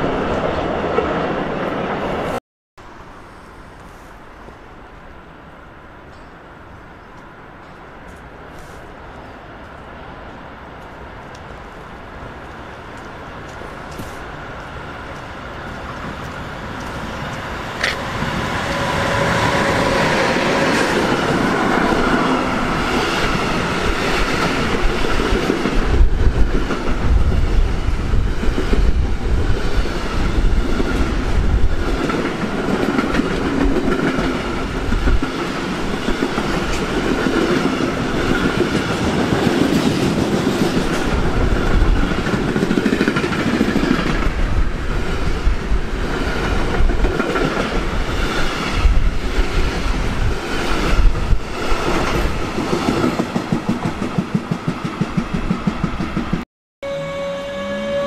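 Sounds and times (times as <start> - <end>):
wheels rumbling on rail: 0.0 - 58.0
clickety-clack at rail joints: 7.1 - 56.4.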